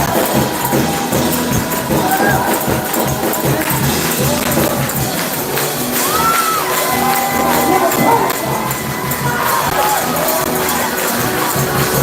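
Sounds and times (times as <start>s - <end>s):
church praise music: 0.0s - 12.0s
tambourine shaking: 0.0s - 12.0s.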